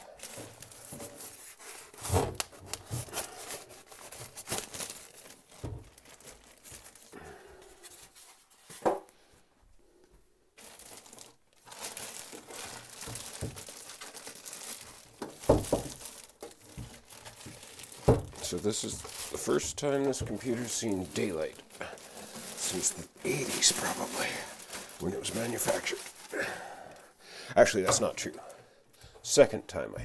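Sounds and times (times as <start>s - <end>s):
plastic bag and styrofoam rustling: 0.0s - 8.8s, 10.6s - 28.4s.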